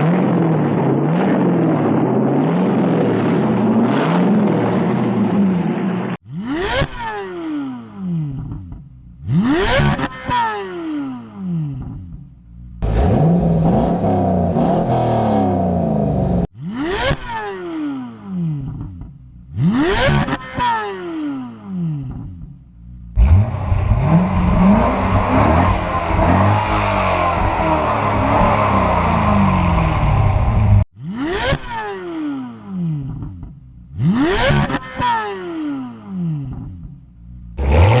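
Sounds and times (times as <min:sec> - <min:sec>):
car engine revving: 0:06.2 - 0:18.9, 0:19.5 - 0:38.0.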